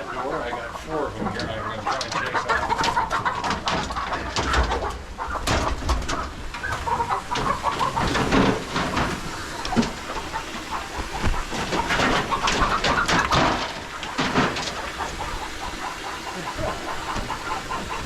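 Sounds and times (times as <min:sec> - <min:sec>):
chickens clucking and squawking: 0:00.0 - 0:18.0.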